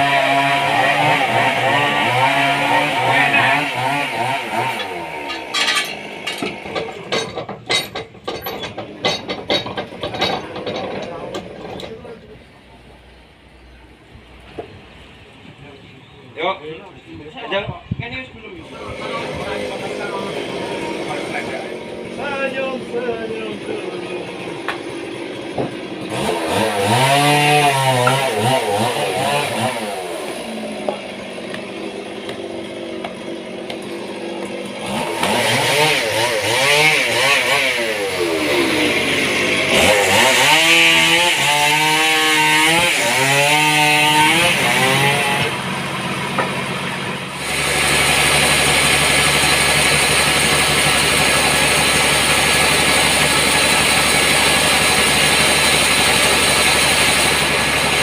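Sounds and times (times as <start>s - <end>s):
motor engine revving: 0.0s - 7.1s, 18.6s - 58.0s.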